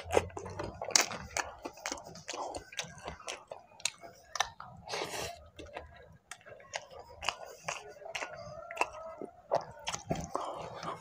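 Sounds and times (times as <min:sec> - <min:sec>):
noisy crunch: 0:00.0 - 0:11.0
wet chewing mouth clicks: 0:00.0 - 0:11.0.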